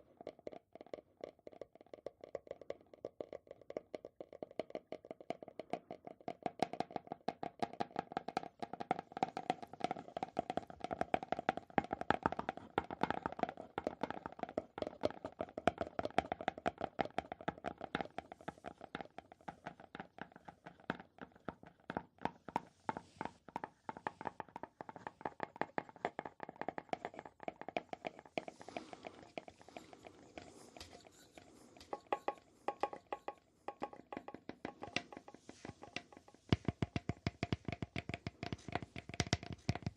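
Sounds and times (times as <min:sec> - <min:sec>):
rapid tapping on hard object: 0:00.0 - 0:39.9.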